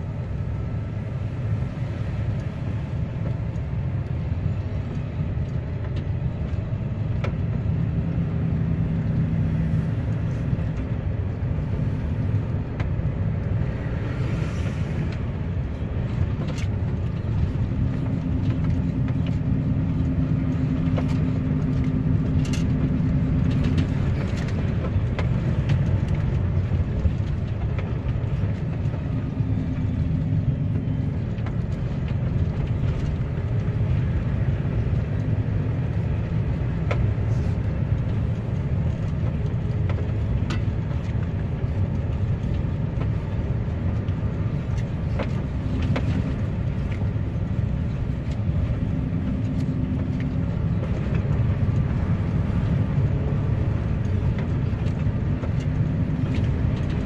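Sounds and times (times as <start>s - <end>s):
road noise: 0.0s - 57.0s
truck diesel engine rumbling: 0.0s - 57.0s.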